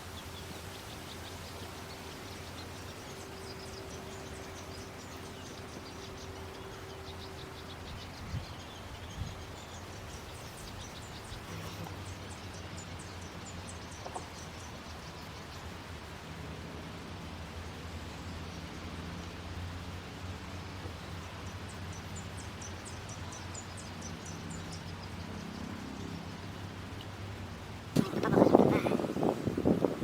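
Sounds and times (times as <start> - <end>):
small birds chirping: 0.0 - 16.2, 20.4 - 30.0
steady low hum: 0.0 - 30.0.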